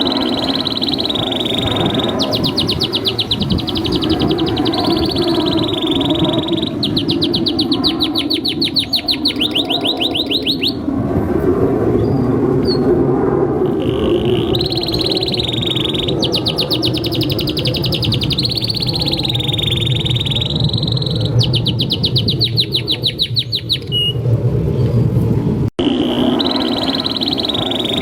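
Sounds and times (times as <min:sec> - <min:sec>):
canary singing: 0:00.0 - 0:10.8, 0:13.6 - 0:24.2, 0:25.8 - 0:28.0.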